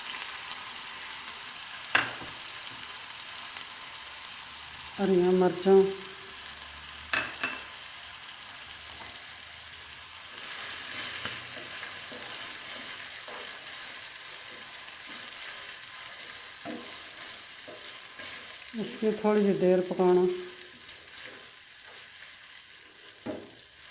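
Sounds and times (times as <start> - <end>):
chicken sizzling in a frying pan: 0.0 - 23.9.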